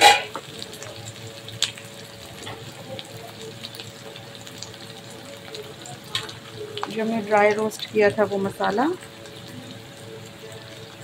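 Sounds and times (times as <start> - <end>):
food sizzling in hot oil: 0.0 - 11.0
oil crackles: 0.0 - 11.0.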